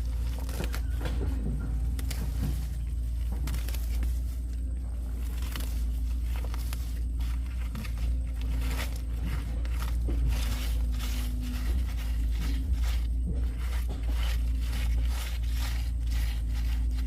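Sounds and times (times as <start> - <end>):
scraping rust off metal: 0.0 - 17.0.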